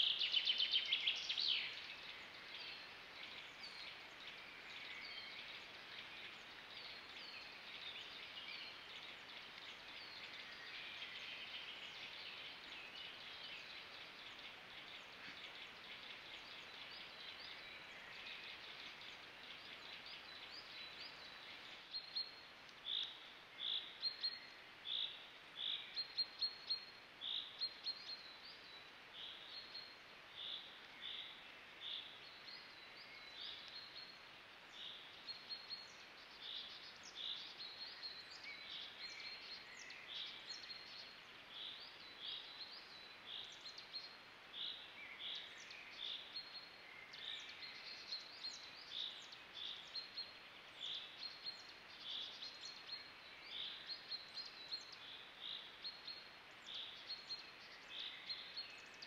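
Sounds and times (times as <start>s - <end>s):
birds singing: 0.0s - 59.0s.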